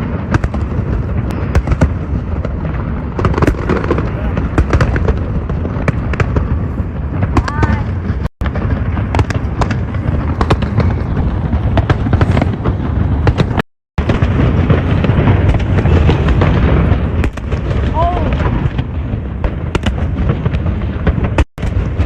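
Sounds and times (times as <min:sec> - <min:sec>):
fireworks booming: 0:00.0 - 0:22.0
fireworks crackling: 0:00.0 - 0:22.0.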